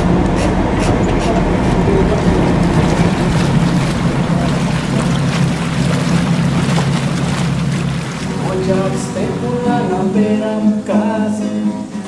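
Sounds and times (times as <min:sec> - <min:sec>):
ferry engines droning: 0:00.0 - 0:12.0
rushing wind and water: 0:00.0 - 0:12.0.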